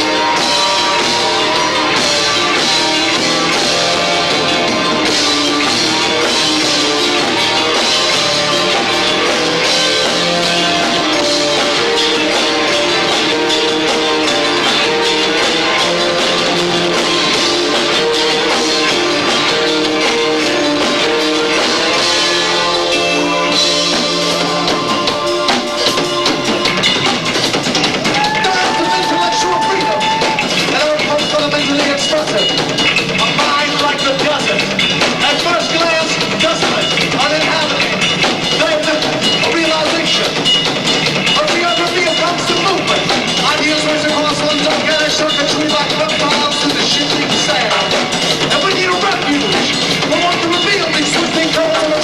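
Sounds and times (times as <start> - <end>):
drum kit: 0.0 - 52.0
electric guitar: 0.0 - 52.0
live rock band: 0.0 - 52.0.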